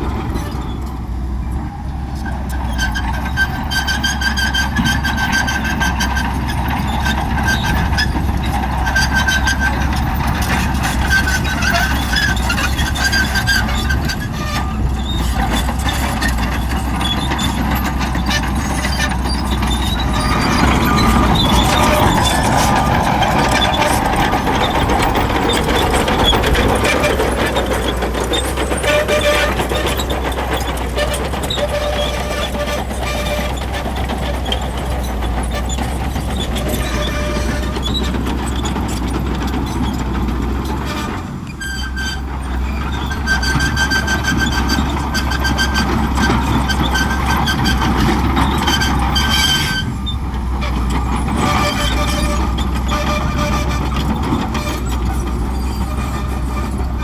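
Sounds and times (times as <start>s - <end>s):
bulldozer diesel engine rumble: 0.0s - 57.0s
steel tracks squealing and clicking: 0.0s - 57.0s.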